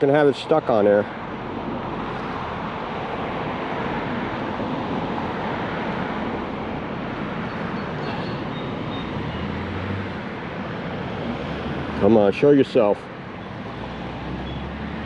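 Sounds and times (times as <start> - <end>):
traffic on busy road: 0.0 - 15.0.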